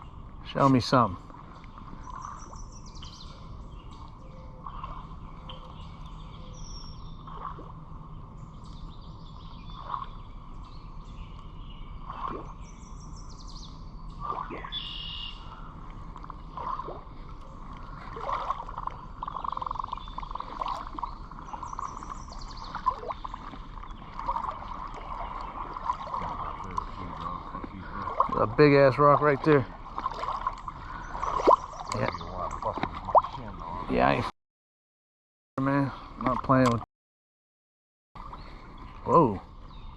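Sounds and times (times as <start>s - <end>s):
birds chirping: 0.0s - 34.3s, 35.6s - 36.8s, 38.2s - 39.9s.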